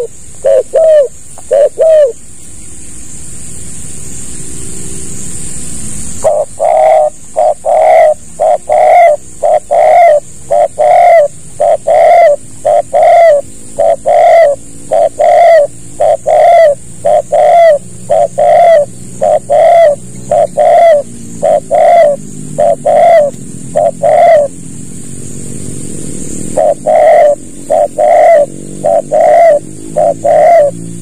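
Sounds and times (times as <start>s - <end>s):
dove cooing: 0.0s - 2.2s, 6.2s - 24.6s, 26.4s - 30.9s.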